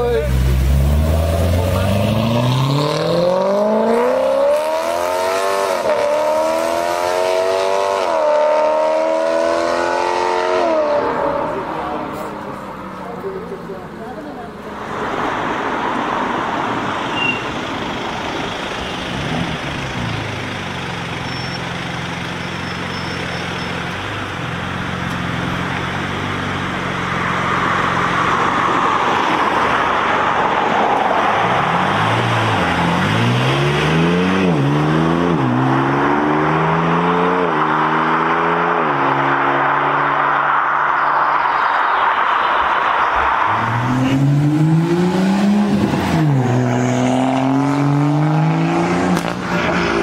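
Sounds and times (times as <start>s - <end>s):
car engine idling and accelerating: 0.0s - 50.0s
street noise: 0.0s - 50.0s.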